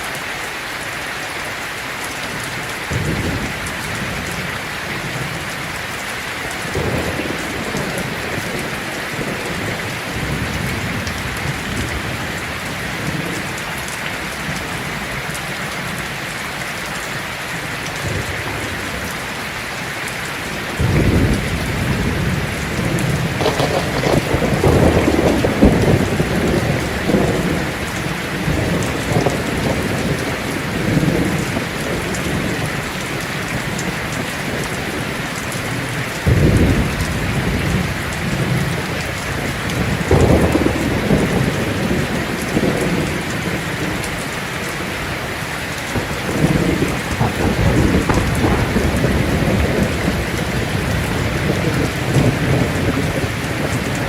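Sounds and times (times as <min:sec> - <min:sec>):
heavy rain on a tin roof: 0:00.0 - 0:54.0
thunder rumbling: 0:02.6 - 0:16.4, 0:17.5 - 0:54.0.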